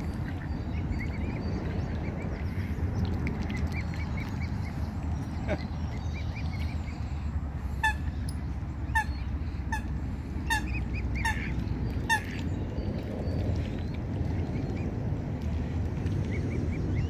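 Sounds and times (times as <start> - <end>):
steady low rumble: 0.0 - 17.0
water bird calling: 0.0 - 17.0.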